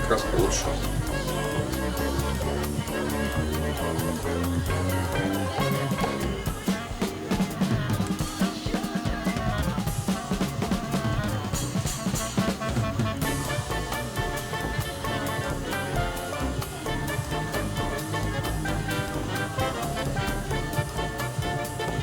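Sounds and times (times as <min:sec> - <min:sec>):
drum-kit beat: 0:00.0 - 0:22.0
held instrumental notes: 0:00.0 - 0:22.0.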